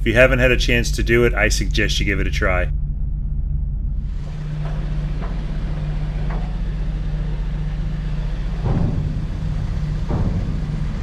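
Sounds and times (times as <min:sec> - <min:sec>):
engine humming: 0:00.0 - 0:11.0
short loud rumble: 0:00.0 - 0:11.0.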